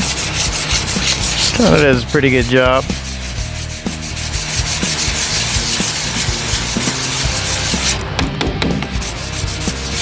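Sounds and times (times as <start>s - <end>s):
sandpaper taps: 0.0s - 1.8s, 3.4s - 10.0s
sandpaper rasping: 0.0s - 8.0s, 8.9s - 10.0s.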